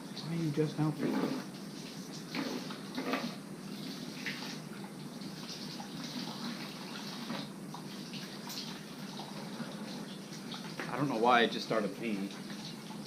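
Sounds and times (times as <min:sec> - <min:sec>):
coolant trickling and splashing: 0:00.2 - 0:13.0.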